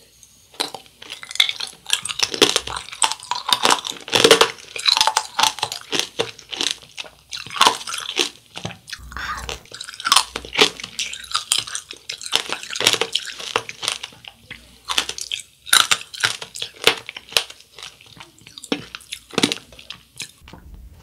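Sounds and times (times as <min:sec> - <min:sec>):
crunching candied fruit: 0:00.5 - 0:20.5.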